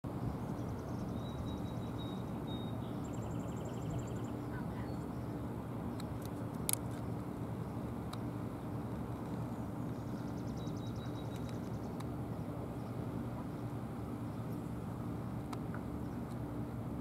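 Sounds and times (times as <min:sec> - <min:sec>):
birds chirping in trills: 0:00.1 - 0:16.7
helicopter turbine engines droning: 0:00.1 - 0:17.0.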